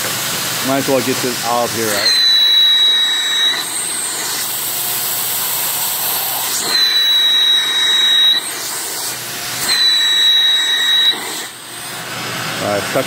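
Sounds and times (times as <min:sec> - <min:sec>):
vacuum pump hissing: 0:00.0 - 0:13.0.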